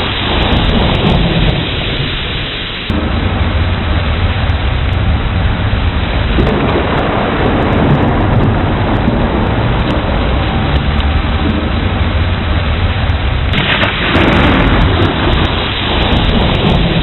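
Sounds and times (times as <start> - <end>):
low thunder rumble: 0.0 - 17.0
steady rain: 0.0 - 17.0.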